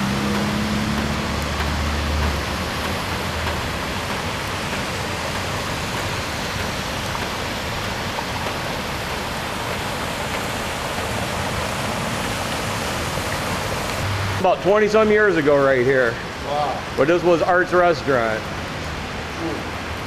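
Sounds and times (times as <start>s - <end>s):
low vehicle engine hum: 0.0s - 17.0s
heavy rain hissing: 0.0s - 20.0s
rushing floodwater: 0.0s - 20.0s.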